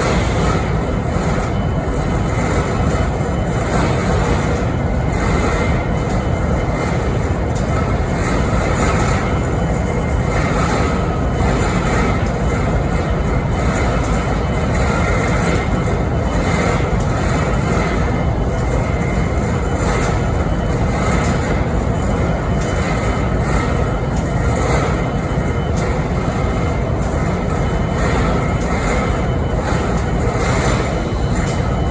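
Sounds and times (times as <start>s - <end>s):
diesel locomotive idling: 0.0s - 31.9s.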